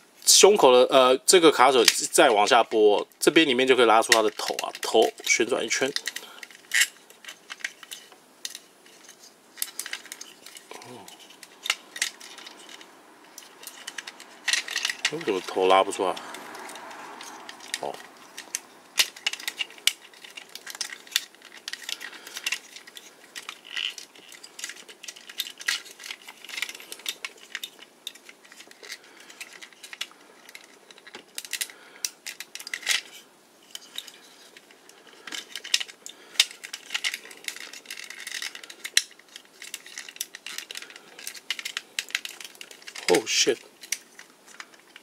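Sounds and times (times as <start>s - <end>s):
plastic toy parts clicking: 1.6s - 45.0s.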